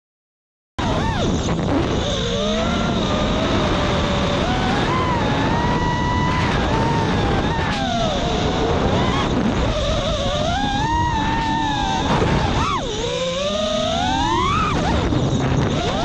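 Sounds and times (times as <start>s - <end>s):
quadcopter motors whining: 0.8s - 16.0s
wind and prop wash: 0.8s - 16.0s.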